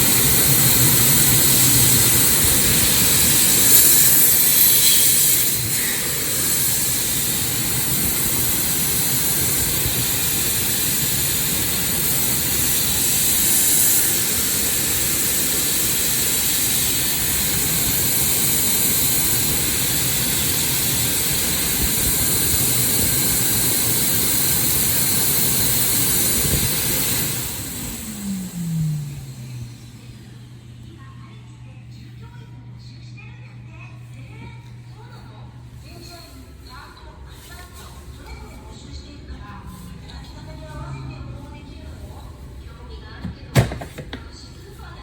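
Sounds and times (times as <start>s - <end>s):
hand dryer blowing air: 0.0s - 30.8s, 34.7s - 45.0s.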